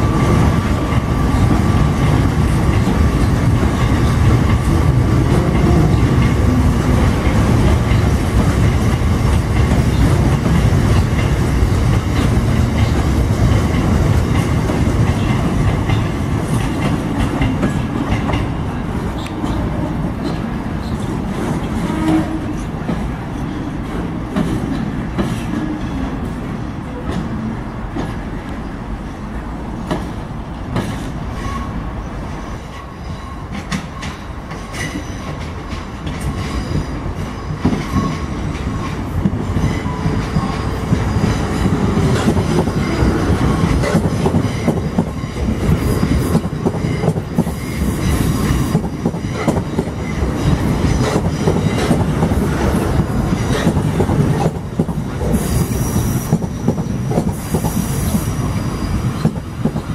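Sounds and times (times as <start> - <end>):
freight train wagons clattering: 0.0 - 28.7, 32.3 - 59.9
electric train arriving: 0.0 - 59.9
falling whine of slowing train: 0.0 - 59.9.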